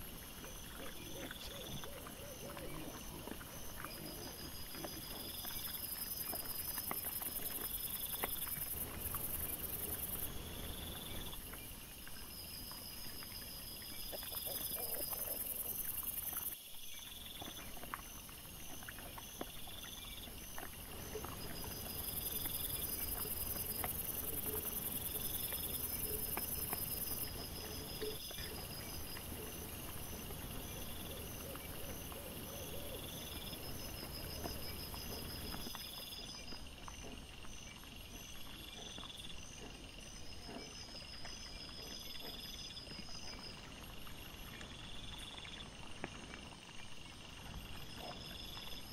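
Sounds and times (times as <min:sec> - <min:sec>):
crickets chirping: 0:00.0 - 0:48.9.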